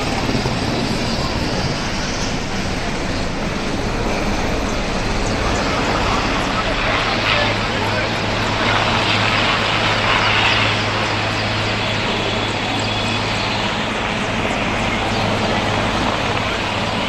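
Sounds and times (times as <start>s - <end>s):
helicopter rotor and turbine: 0.0s - 17.0s.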